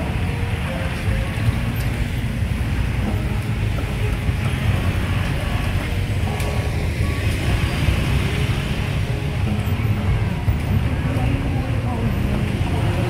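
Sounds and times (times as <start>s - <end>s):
faint voices: 0.0s - 13.0s
motorbike and road traffic rumble: 0.0s - 13.0s.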